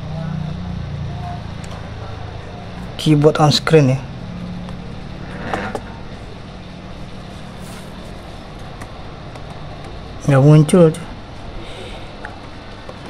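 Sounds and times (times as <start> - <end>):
background rumble and hum: 0.0 - 13.0.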